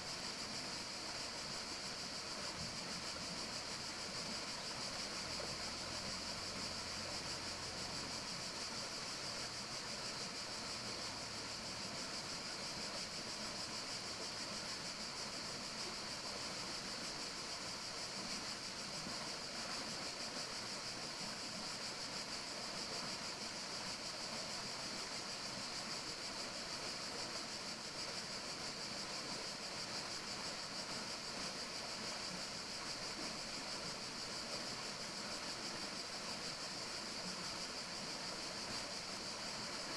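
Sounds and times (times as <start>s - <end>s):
forest ambience hiss: 0.0s - 39.9s.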